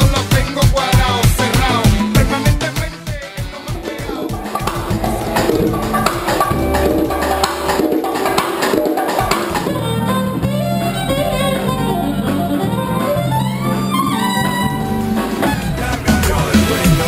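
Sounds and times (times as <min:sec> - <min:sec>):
latin music with guitar and violin: 0:00.0 - 0:17.0.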